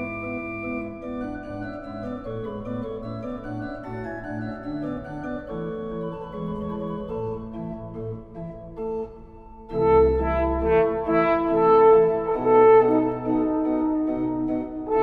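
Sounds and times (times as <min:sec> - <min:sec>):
pipe organ playing chords: 0:00.0 - 0:15.0.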